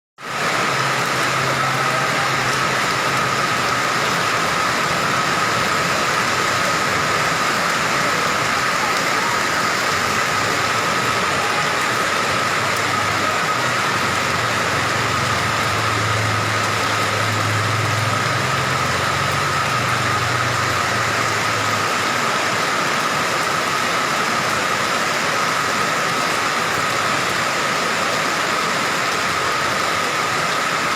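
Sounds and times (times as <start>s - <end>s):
rain falling steadily: 0.2s - 30.9s.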